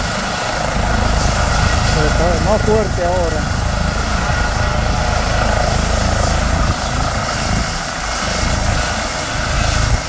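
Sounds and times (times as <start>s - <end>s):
helicopter rotor rumble: 0.0s - 10.0s
helicopter turbine whine: 0.0s - 10.0s.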